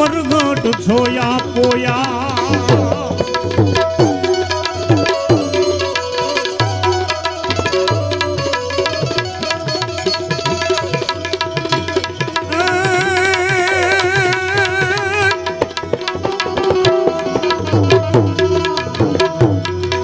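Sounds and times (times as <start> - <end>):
tabla playing rhythm: 0.0 - 20.0.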